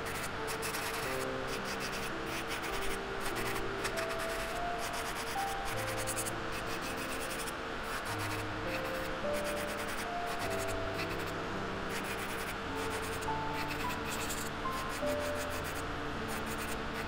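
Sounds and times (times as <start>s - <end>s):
dust collector fan rushing: 0.0s - 17.0s
electric nail drill grinding: 0.0s - 17.0s
soft background music: 0.0s - 17.0s.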